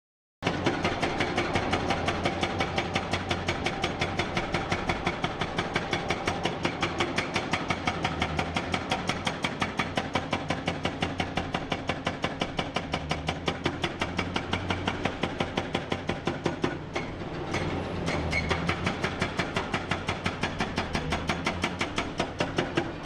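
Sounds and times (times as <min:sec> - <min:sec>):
excavator diesel engine running: 0:00.5 - 0:23.0.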